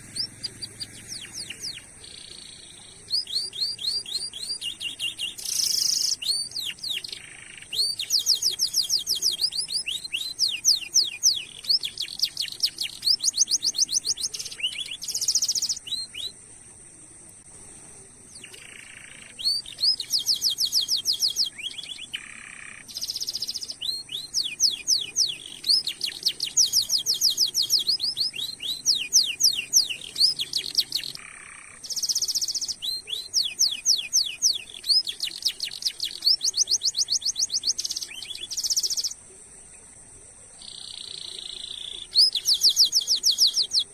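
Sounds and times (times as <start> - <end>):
canary singing: 0.0 - 16.4, 18.4 - 39.2, 40.6 - 43.9.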